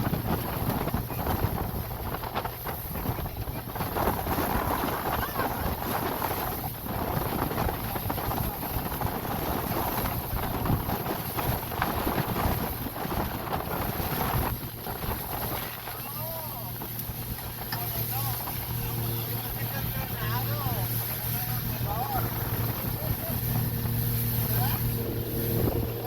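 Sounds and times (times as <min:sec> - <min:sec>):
boat engine drone: 0:00.0 - 0:26.0
wind buffeting microphone: 0:00.0 - 0:26.0.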